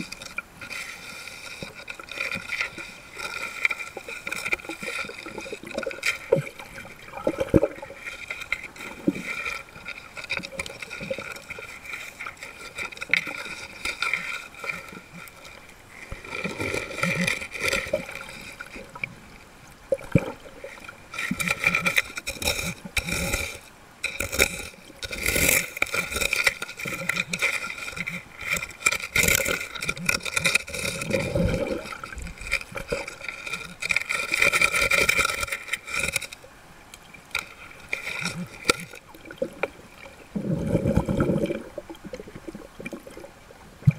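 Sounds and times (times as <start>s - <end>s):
underwater sloshing and gurgling: 0.0s - 43.9s.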